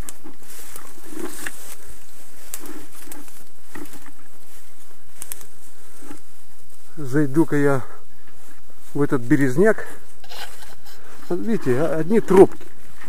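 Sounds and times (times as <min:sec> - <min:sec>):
background hiss: 0:00.0 - 0:13.0
footsteps through undergrowth: 0:00.0 - 0:13.0.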